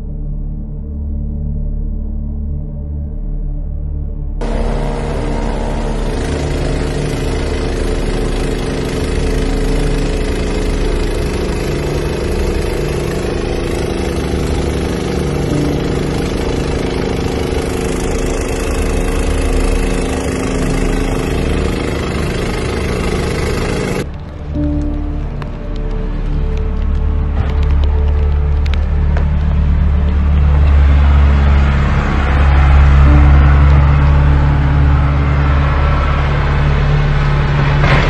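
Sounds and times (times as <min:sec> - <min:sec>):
snowblower engine running: 0:04.4 - 0:38.0.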